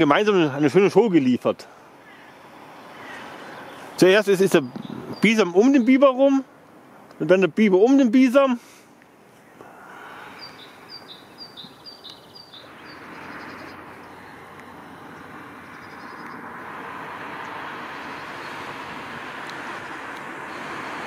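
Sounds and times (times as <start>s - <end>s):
road traffic rushing: 0.0s - 21.0s.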